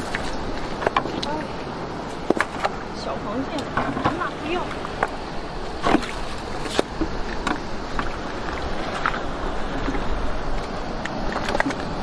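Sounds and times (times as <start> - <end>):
sea washing on rocky shore: 0.0 - 12.0
wind rumbling on microphone: 0.0 - 12.0.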